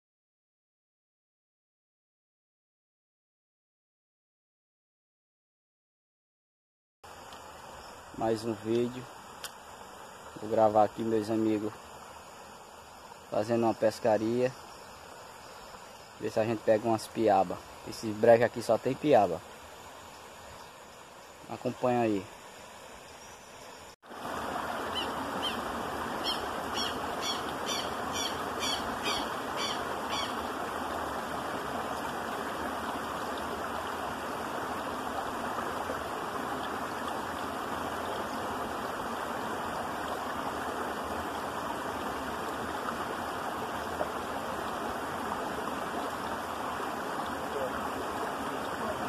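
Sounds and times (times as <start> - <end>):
creek water running over rocks: 7.1 - 49.0.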